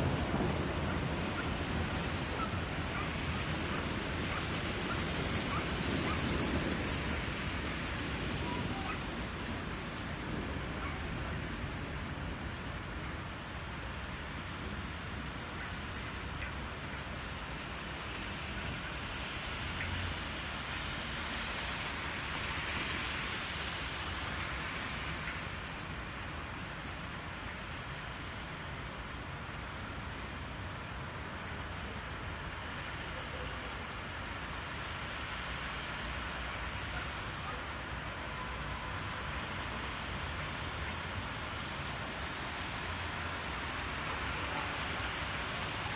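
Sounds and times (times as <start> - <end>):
hail and rain falling: 0.0 - 45.9.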